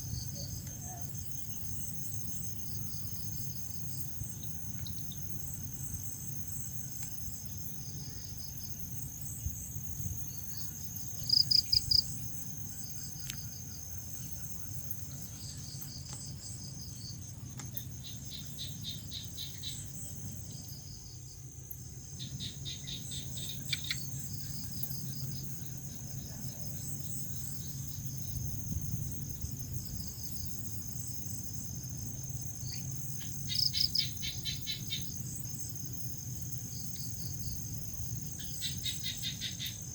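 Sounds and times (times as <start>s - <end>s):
crickets chirping: 0.0s - 39.9s
nearby cricket rapid chirps: 0.0s - 39.9s.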